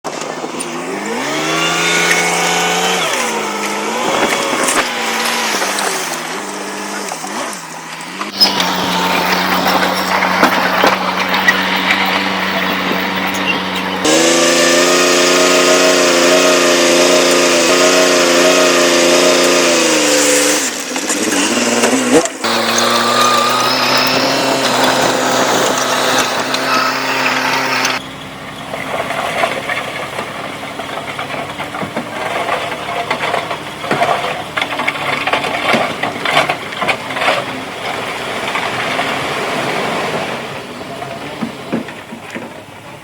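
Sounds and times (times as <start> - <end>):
bulldozer diesel engine: 0.0 - 43.0
dump truck engine: 0.0 - 43.0.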